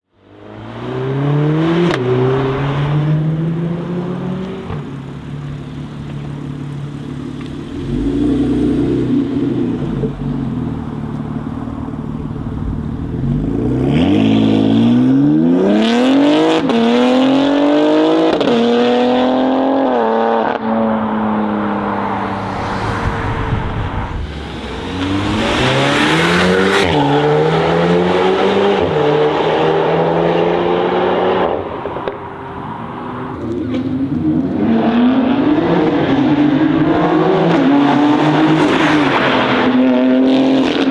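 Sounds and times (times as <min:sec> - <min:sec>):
car engine accelerating hard: 0:00.5 - 0:40.9.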